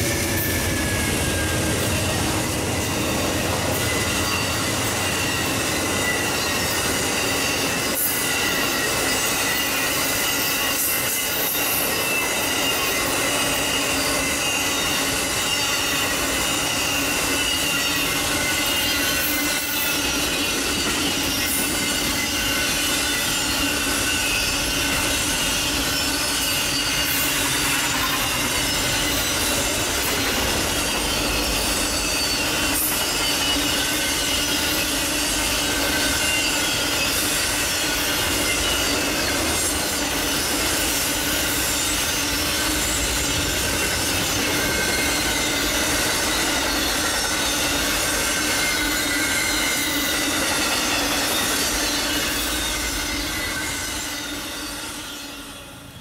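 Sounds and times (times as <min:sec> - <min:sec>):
railroad cars rolling rumble: 0:00.0 - 0:56.0
train wheels squealing: 0:00.0 - 0:56.0.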